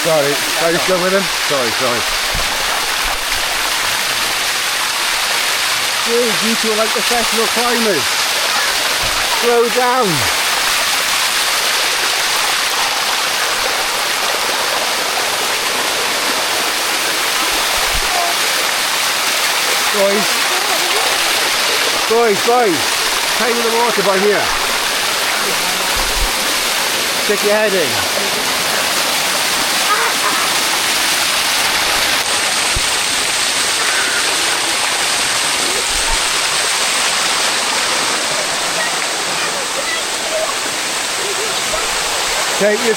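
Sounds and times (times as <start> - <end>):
waterfall rushing and splashing: 0.0 - 42.9.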